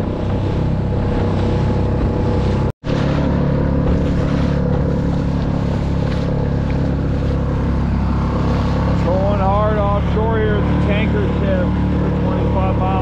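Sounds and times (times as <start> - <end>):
outboard motor running: 0.0 - 13.0
water splashing along hull: 0.0 - 13.0.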